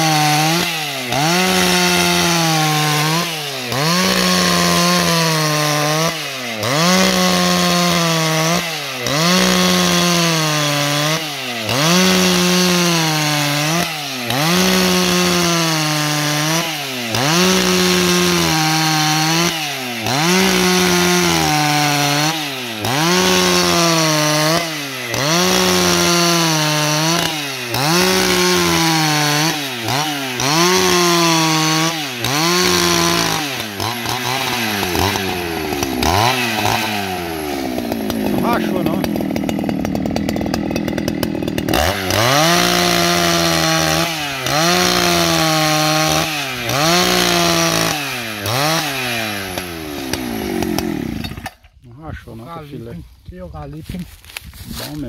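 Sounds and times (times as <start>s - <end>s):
chainsaw cutting wood: 0.0s - 51.8s, 54.0s - 55.0s.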